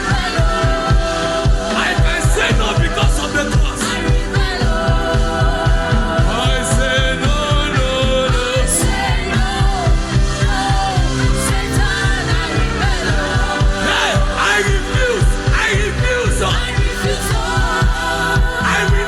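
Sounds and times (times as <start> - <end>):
gospel worship music: 0.0 - 19.0
person singing: 0.0 - 19.0.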